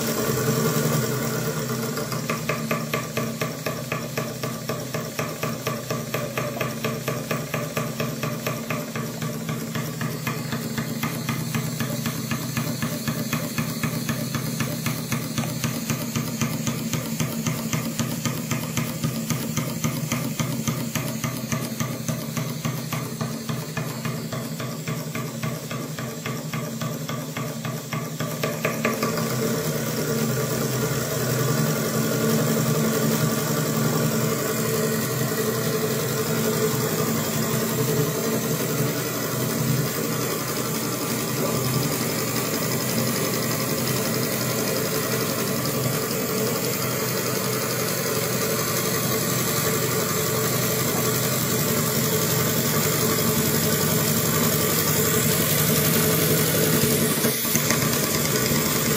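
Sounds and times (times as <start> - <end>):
model steam engine beats: 0.0 - 58.9.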